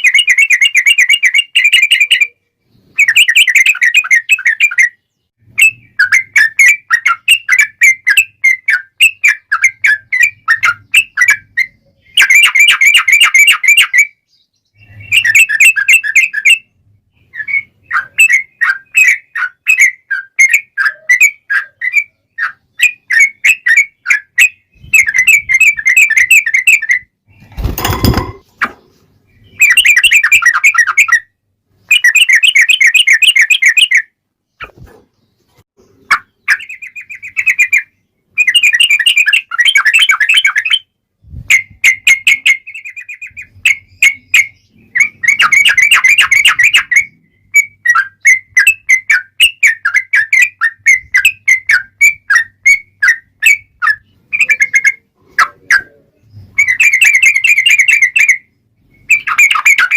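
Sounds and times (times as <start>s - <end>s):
bird singing chirps and trills: 0.0s - 59.9s.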